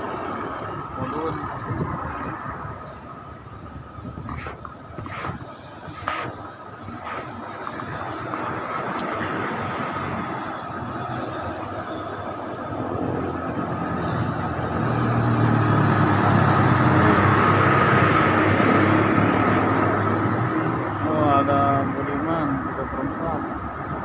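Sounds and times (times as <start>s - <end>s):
road noise: 0.0s - 24.0s.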